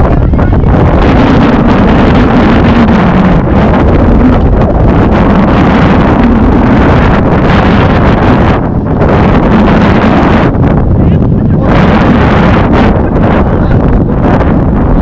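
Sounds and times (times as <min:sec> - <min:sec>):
whitewater rushing: 0:00.0 - 0:15.0
wind buffeting microphone: 0:00.0 - 0:15.0.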